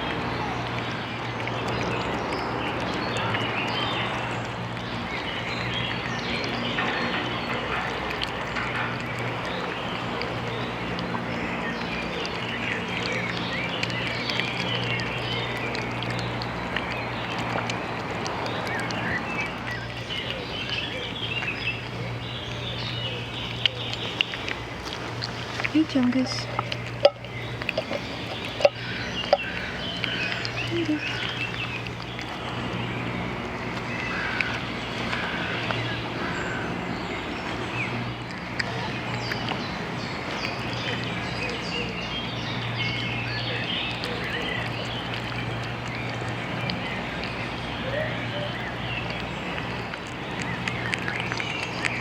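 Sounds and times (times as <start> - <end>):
birds chirping: 0.0 - 52.0
steady low hum: 0.0 - 52.0.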